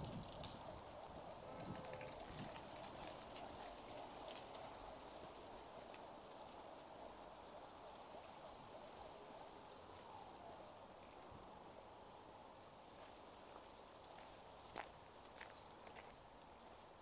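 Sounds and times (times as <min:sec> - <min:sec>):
soft outdoor hiss: 0:00.0 - 0:17.0.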